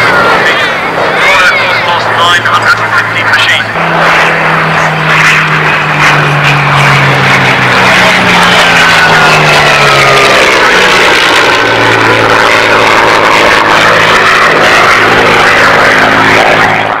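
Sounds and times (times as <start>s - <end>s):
high whine: 0.0s - 17.0s
propeller aircraft engine drone: 0.0s - 17.0s.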